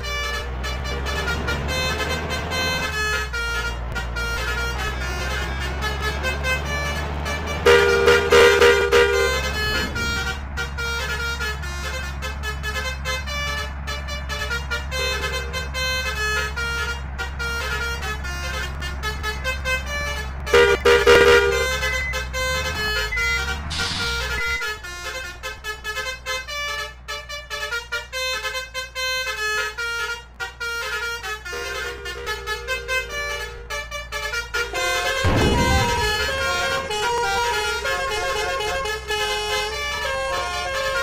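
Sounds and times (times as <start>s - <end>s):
bus engines humming: 0.0s - 41.0s
musical bus horns playing: 0.0s - 41.0s.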